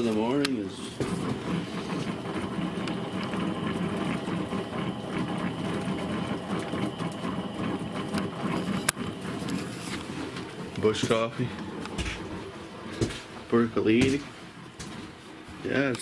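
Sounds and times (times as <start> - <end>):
percolator bubbling and gurgling: 0.6 - 15.6.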